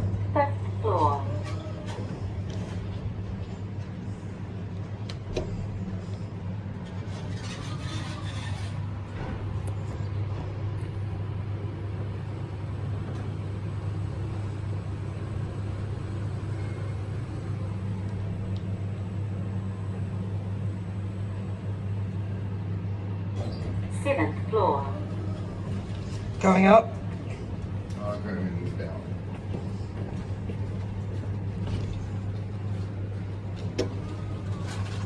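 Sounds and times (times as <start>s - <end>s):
lift humming: 0.0s - 35.0s.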